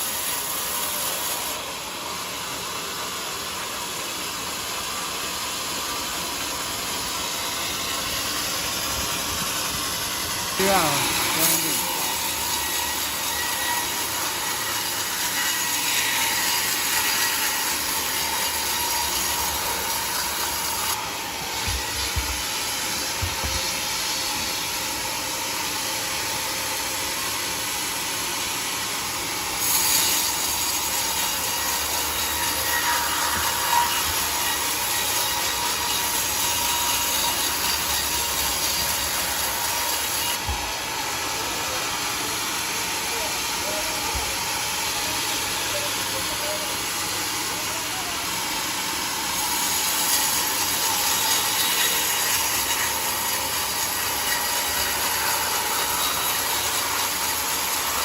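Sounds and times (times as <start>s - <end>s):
sawmill mechanical hiss: 0.0s - 58.0s
steady sawmill whine: 0.0s - 58.0s.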